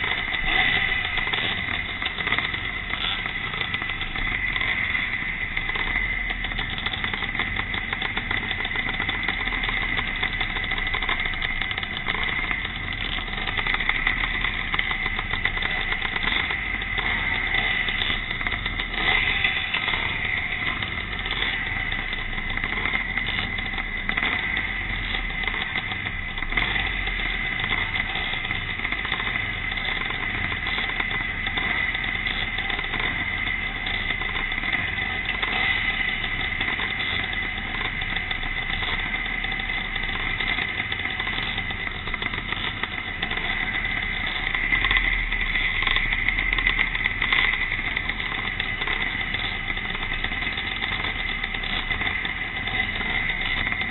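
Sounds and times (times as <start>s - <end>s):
motocross motorcycles racing: 0.0s - 53.9s.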